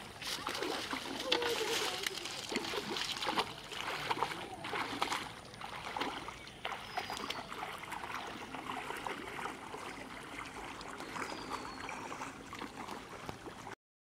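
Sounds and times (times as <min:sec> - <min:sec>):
wading through water splashing: 0:00.0 - 0:13.8.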